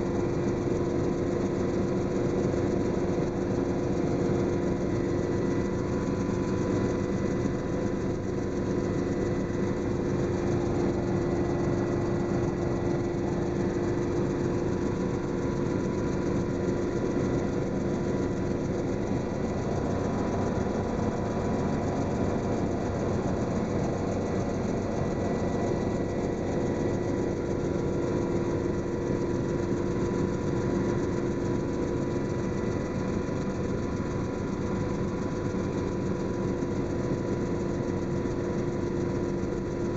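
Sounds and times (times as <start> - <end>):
helicopter flying: 0.0 - 39.9.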